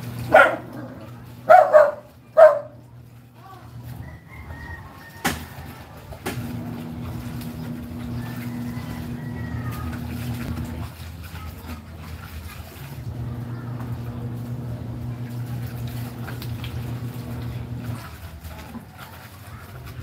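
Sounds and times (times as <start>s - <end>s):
clothes scrubbed in water: 0.0s - 20.0s
low motor hum: 0.0s - 20.0s.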